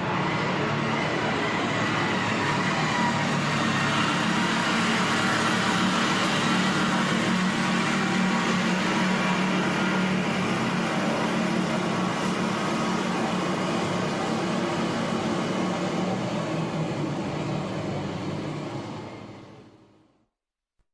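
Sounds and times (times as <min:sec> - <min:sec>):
road roller engine humming: 0:00.0 - 0:20.1.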